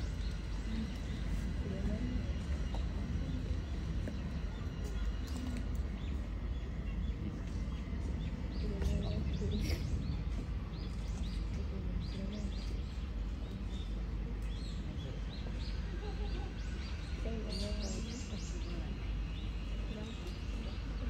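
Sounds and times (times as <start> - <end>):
faint human voices: 0.0 - 21.0
low background rumble: 0.0 - 21.0
small birds chirping: 0.0 - 21.0.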